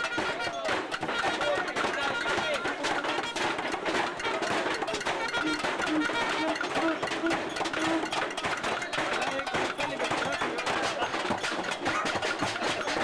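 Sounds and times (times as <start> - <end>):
crowd of voices: 0.0 - 13.0
music playing: 0.0 - 13.0.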